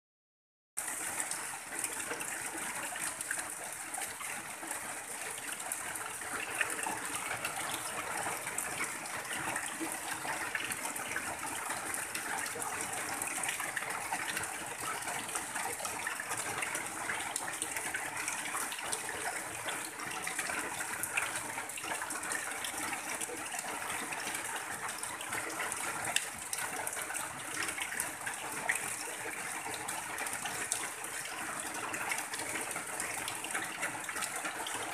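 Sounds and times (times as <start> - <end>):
rain on a tin roof: 0.8 - 34.9
water pouring off roof edge: 0.8 - 34.9.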